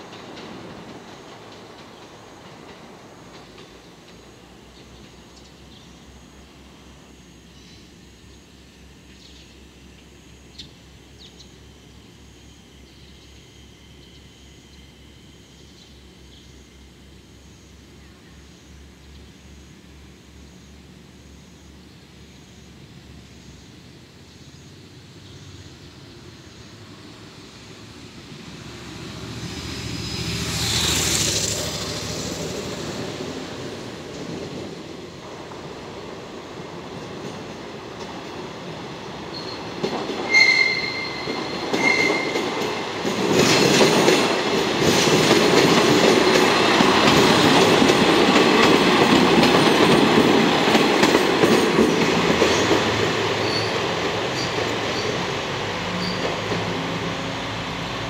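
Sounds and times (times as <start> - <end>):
railcar engine drone: 0.0 - 58.0
wheels hissing on rails: 0.0 - 58.0.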